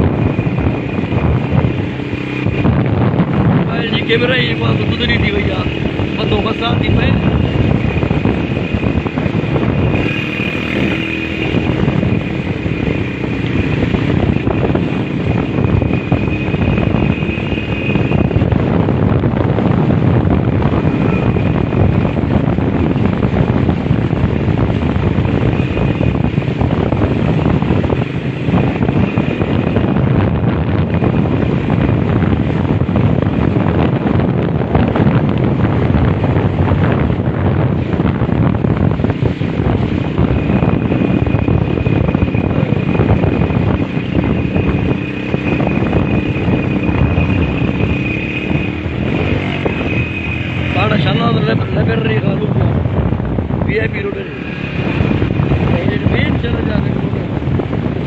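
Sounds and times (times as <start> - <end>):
vehicle rumble: 0.0 - 58.0
wind buffeting microphone: 0.0 - 58.0.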